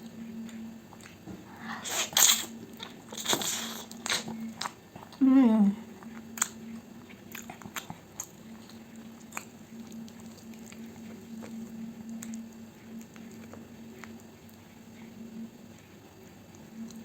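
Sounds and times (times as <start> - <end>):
wet chewing: 0.0 - 5.2, 5.8 - 17.0
steady low hum: 0.0 - 17.0.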